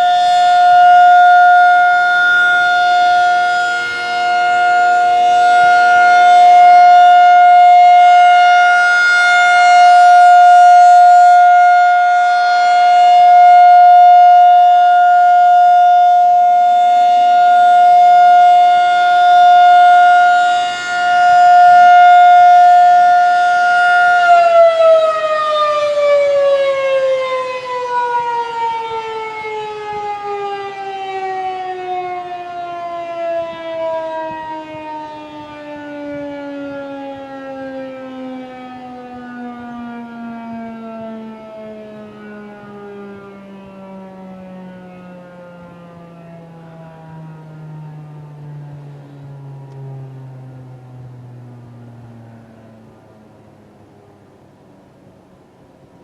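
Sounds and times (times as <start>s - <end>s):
rotating tornado siren: 0.0s - 56.0s.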